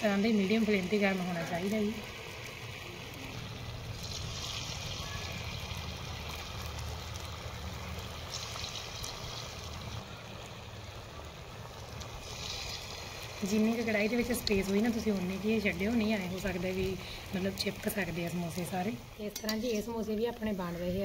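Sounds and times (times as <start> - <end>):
hot oil sizzling and bubbling: 0.0 - 21.0.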